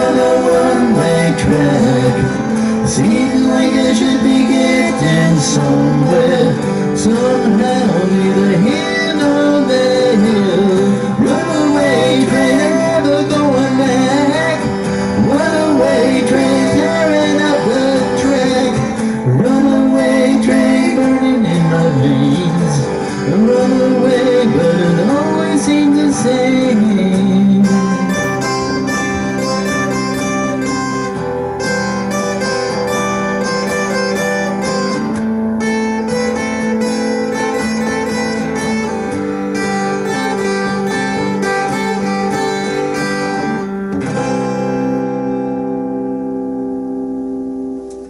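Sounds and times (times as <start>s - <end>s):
acoustic guitars playing: 0.0s - 48.0s.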